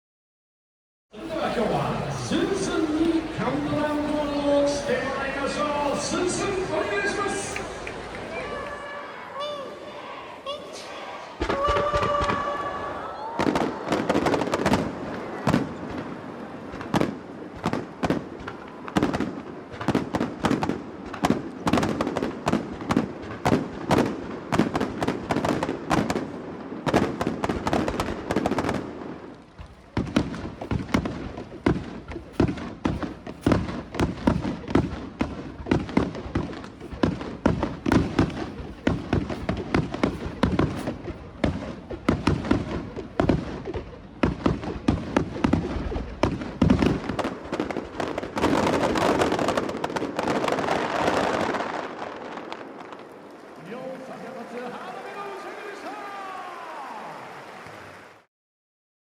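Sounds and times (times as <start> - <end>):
fireworks bangs and bursts: 1.2 - 9.2, 10.0 - 57.8.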